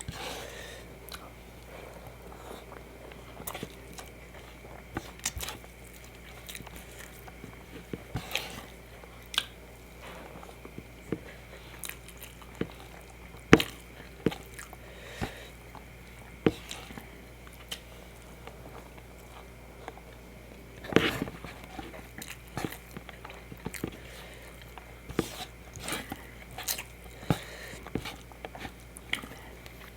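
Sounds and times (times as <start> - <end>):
chewing and biting: 0.0 - 29.9.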